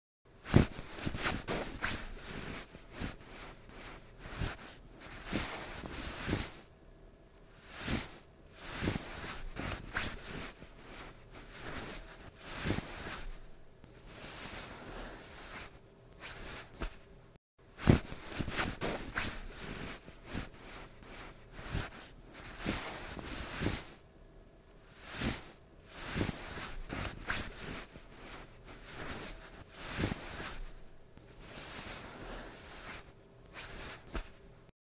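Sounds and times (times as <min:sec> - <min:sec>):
bedclothes rustling: 0:00.3 - 0:06.7, 0:07.6 - 0:17.1, 0:17.7 - 0:24.0, 0:24.9 - 0:34.7.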